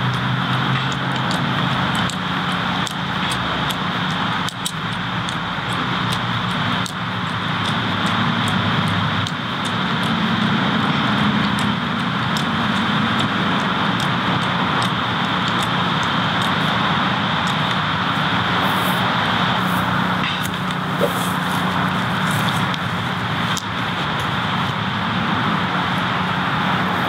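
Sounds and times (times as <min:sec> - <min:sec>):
engine-like drone: 0:00.0 - 0:27.0.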